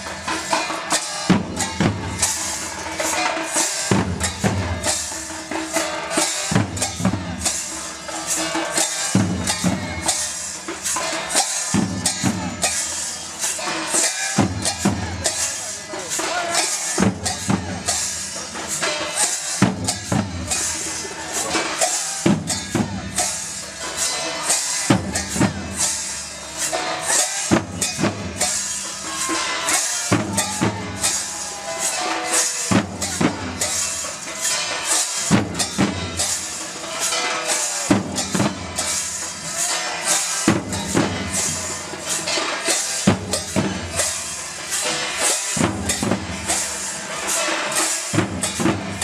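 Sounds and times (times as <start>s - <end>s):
hand cymbals clashing: 0.0s - 49.0s
large drums beaten in rhythm: 0.0s - 49.0s.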